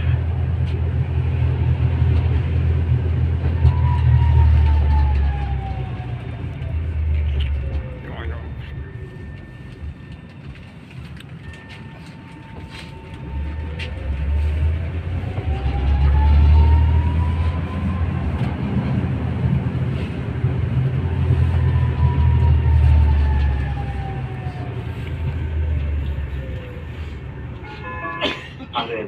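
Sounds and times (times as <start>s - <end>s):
low rumble of tram wheels: 0.0s - 29.0s
tram motors whining: 0.0s - 29.0s.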